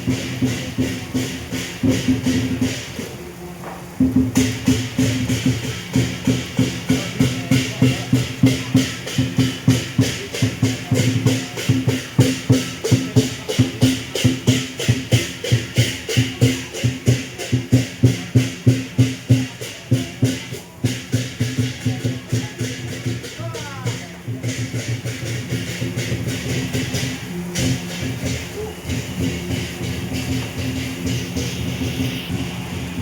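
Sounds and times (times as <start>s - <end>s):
fast struck percussion: 0.0s - 33.0s.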